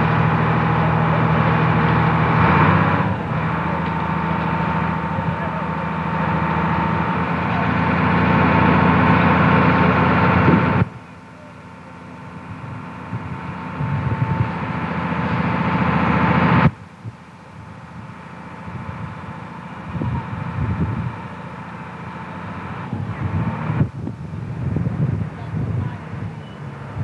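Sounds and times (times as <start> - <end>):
fire engine pump motor running: 0.0 - 27.0.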